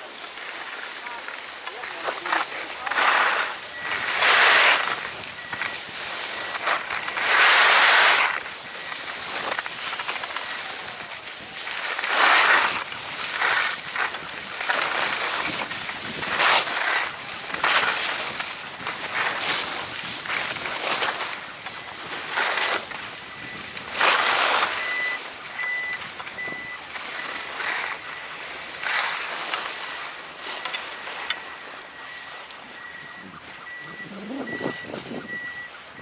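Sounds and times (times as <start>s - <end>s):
skis scraping over snow: 0.0s - 36.0s.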